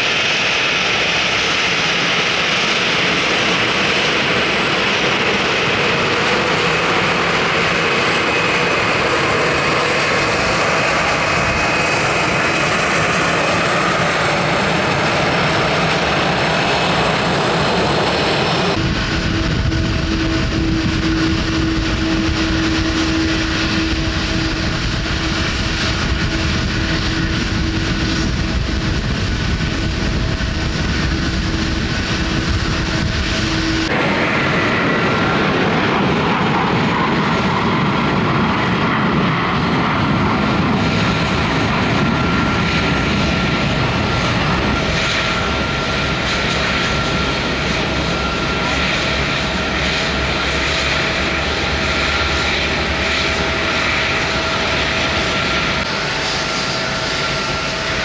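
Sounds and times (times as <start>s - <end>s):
airliner engines whining: 0.0s - 58.0s.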